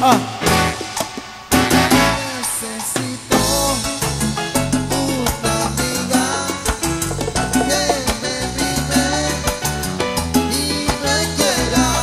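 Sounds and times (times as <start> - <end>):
salsa band playing: 0.0 - 12.0.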